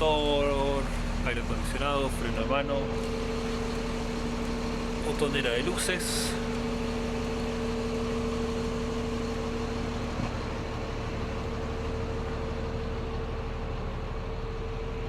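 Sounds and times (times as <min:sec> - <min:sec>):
bus engine idling: 0:00.0 - 0:15.0
steady hum: 0:00.0 - 0:15.0.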